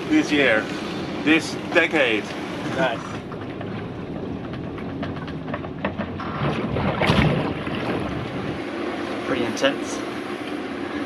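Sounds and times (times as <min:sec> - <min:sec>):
rough sea rushing: 0:00.0 - 0:11.0
wind buffeting microphone: 0:00.0 - 0:11.0.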